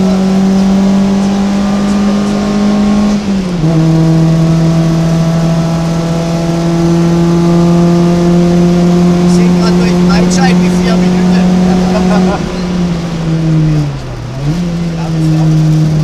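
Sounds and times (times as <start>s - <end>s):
car engine revving high: 0.0s - 16.0s.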